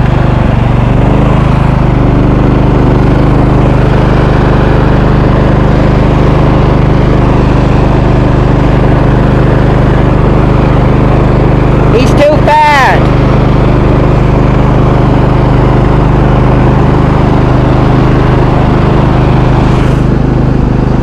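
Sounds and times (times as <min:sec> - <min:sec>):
lawn mower engine running: 0:00.0 - 0:21.0.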